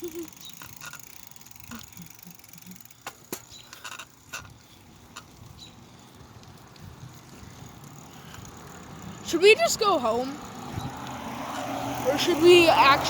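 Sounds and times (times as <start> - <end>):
bicycle clicks and knocks: 0.0 - 13.0
tyre and wind rumble: 0.5 - 13.0.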